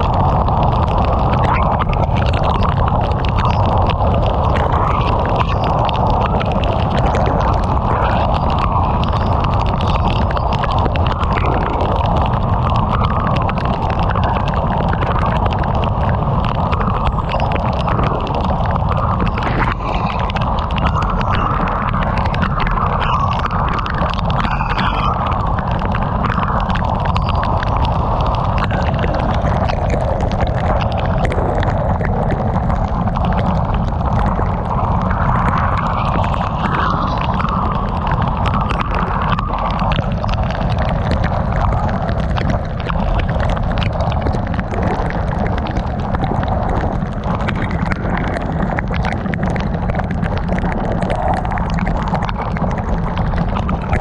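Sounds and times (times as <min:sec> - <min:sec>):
heavy rain pelting a car: 0:00.0 - 0:54.0
road and wind rumble: 0:00.0 - 0:54.0.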